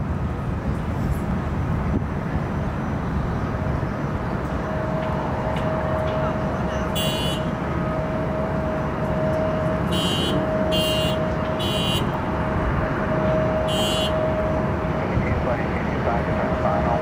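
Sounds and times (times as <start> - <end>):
road traffic: 0.0 - 17.0
distant jet engines rumbling: 0.1 - 17.0.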